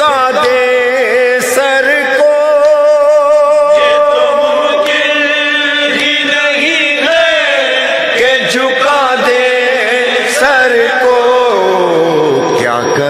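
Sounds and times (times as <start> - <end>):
wordless vocal chorus humming: 0.0 - 13.0.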